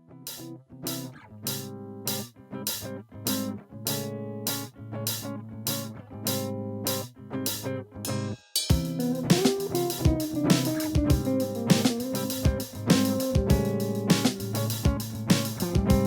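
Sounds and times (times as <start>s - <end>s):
guitar chords strummed: 0.1s - 16.0s.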